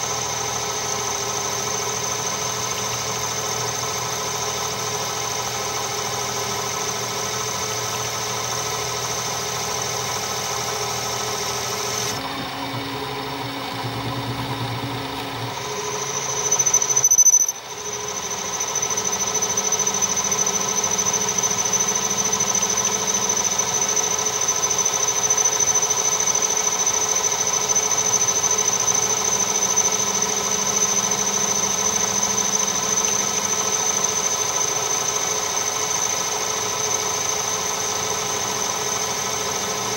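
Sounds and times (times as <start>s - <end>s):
lathe cutting tool squealing: 0.0s - 39.9s
lathe machine hum: 0.0s - 39.9s.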